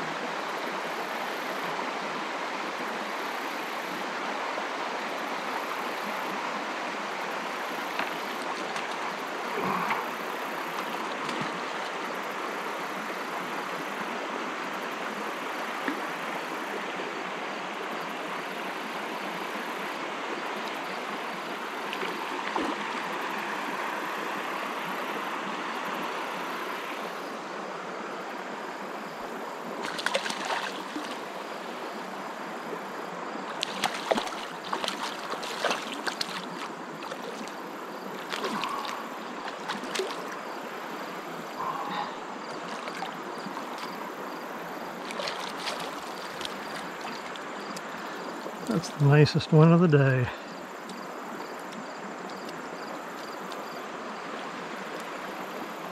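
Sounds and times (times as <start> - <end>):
creek water running over riffle: 0.0 - 55.9.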